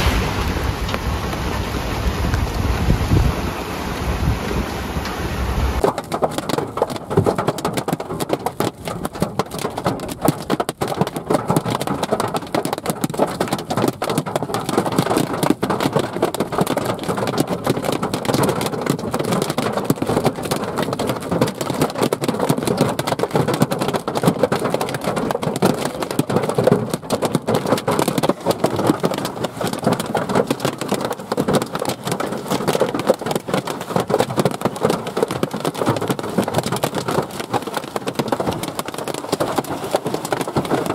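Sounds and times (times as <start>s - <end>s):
hail hitting vehicle roof: 5.8s - 40.9s.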